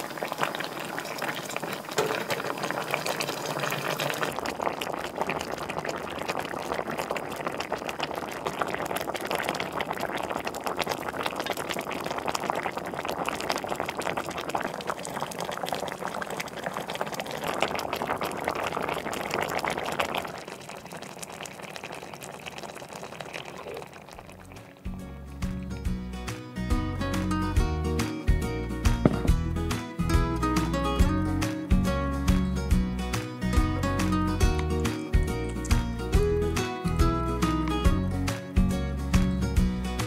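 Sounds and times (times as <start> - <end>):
sauce boiling with popping bubbles: 0.0 - 40.0.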